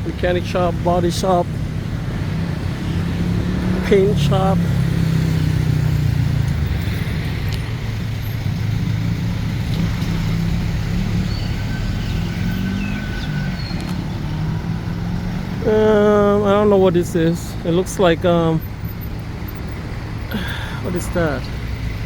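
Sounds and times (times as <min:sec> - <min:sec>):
car engines passing: 0:00.0 - 0:22.0.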